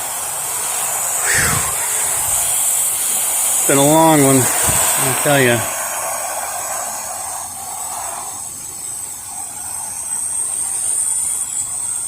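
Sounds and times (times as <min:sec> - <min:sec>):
pressure washer spray hissing: 0:00.0 - 0:11.9.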